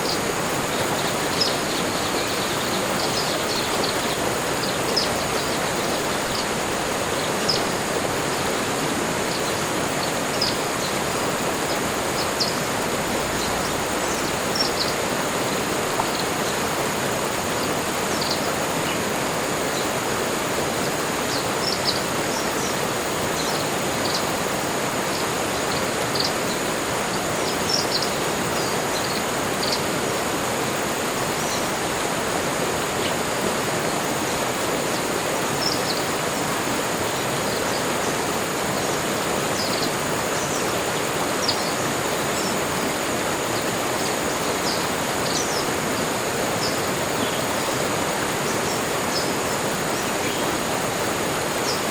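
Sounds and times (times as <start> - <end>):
flowing water: 0.0 - 51.9.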